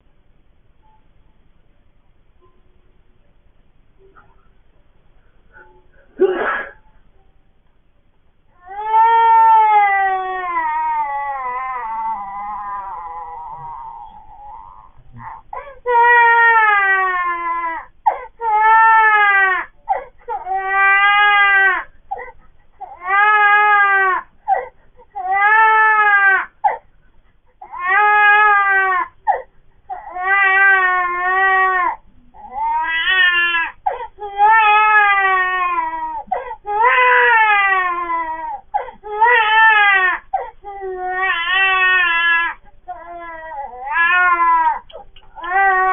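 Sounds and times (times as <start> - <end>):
newborn baby crying: 8.5 - 26.9, 27.6 - 45.9.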